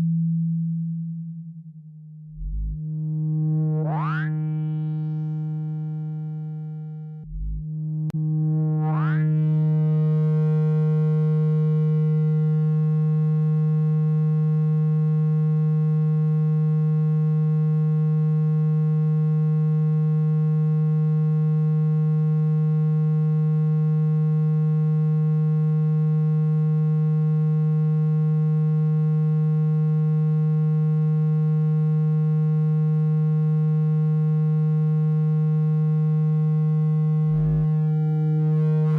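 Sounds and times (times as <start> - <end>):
low buzzing synthesized tone: 0.0 - 38.9.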